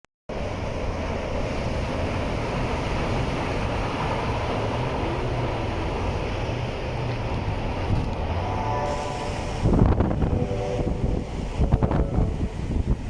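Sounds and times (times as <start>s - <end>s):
wind buffeting microphone: 1.2s - 13.0s.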